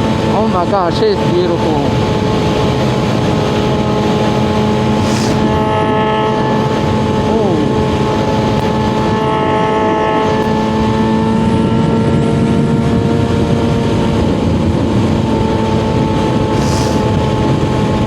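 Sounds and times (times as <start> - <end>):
motorcycle engine running: 0.0 - 18.0
wind and road rush: 0.0 - 18.0.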